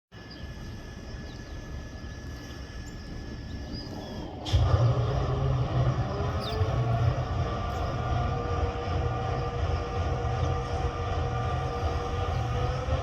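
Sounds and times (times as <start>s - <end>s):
low steady hum: 0.2s - 13.0s
locomotive diesel engine rumbling: 0.3s - 13.0s.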